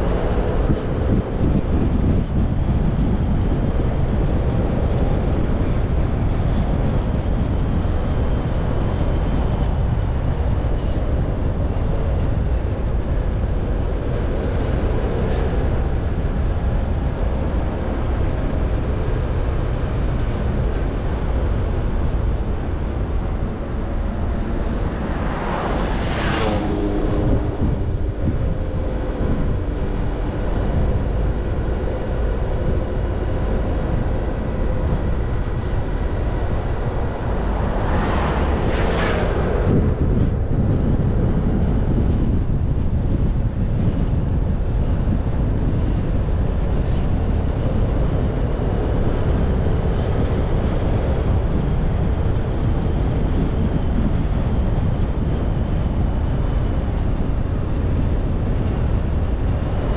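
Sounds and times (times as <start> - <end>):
road and wind rumble: 0.0 - 59.9
rushing whoosh: 7.2 - 59.9.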